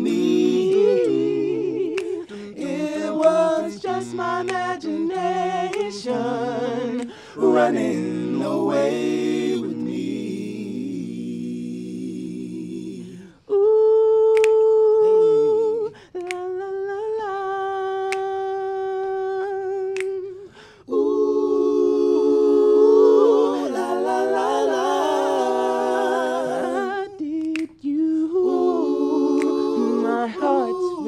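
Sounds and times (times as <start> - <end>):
male vocal group singing harmonies: 0.0 - 31.0.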